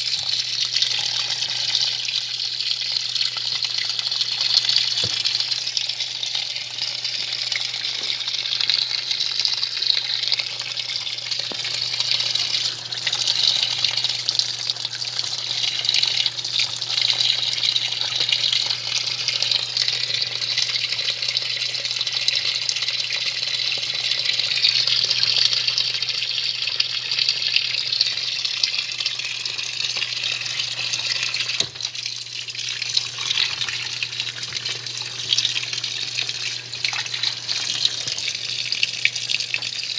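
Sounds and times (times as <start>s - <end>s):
water churning in washing machine: 0.0s - 39.9s.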